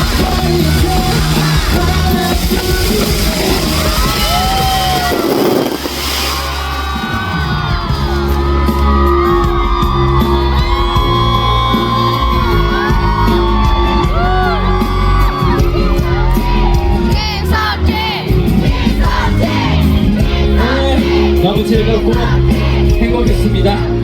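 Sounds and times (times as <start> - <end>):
crowd shouting and screaming: 0.0 - 24.0
loud concert music: 0.0 - 24.0.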